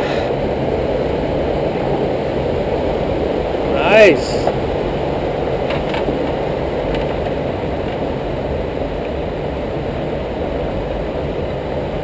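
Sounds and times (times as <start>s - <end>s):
surf surging against rocks: 0.0s - 12.0s.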